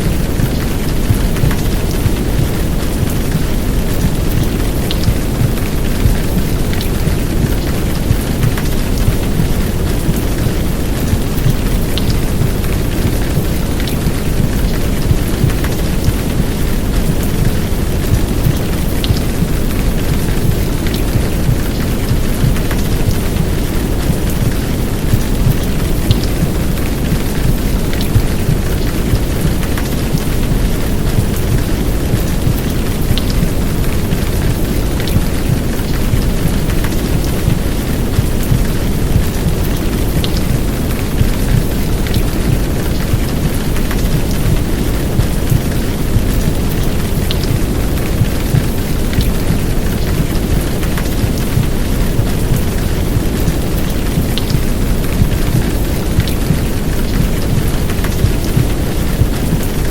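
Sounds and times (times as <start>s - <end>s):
heavy downpour rain: 0.0s - 59.9s
raindrop ticks: 0.0s - 59.9s.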